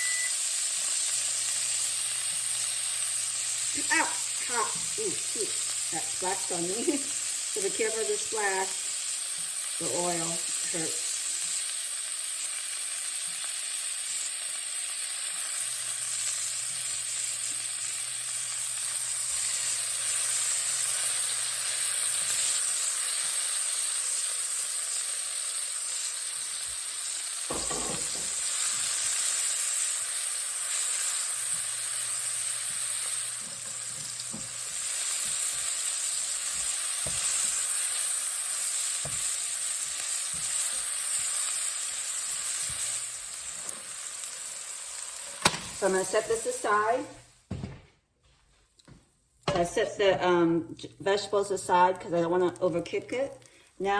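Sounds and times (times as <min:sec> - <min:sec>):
vegetables sizzling in oil: 0:00.0 - 0:47.5, 0:49.5 - 0:53.9.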